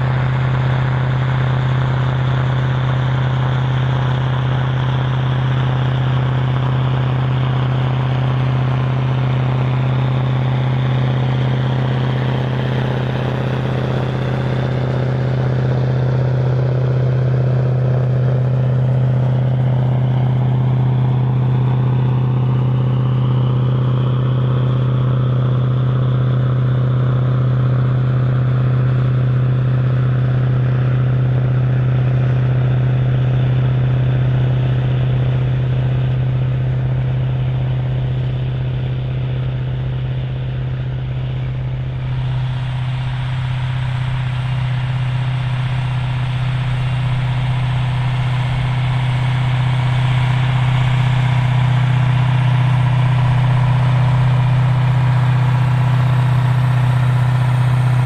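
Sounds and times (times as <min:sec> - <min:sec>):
high-pitched mechanical noise: 0:00.0 - 0:58.0
tractor diesel engine humming: 0:00.0 - 0:58.0.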